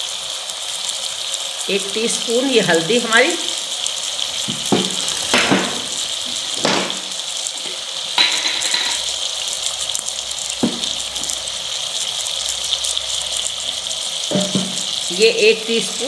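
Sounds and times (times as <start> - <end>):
potato slices sizzling in oil: 0.0 - 16.0
sharp oil crackles: 0.0 - 16.0.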